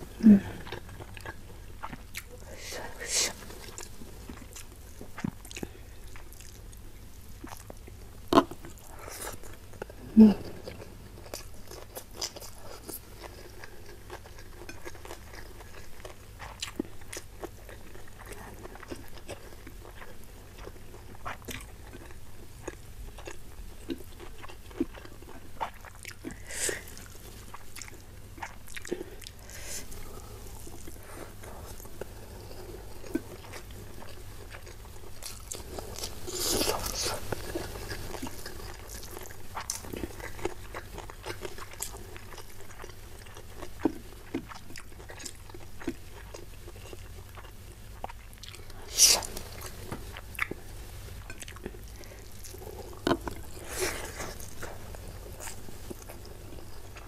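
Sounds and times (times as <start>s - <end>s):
chewing with wet clicks and crunches: 0.6s - 2.4s, 3.6s - 10.0s, 10.6s - 48.8s, 51.2s - 57.0s.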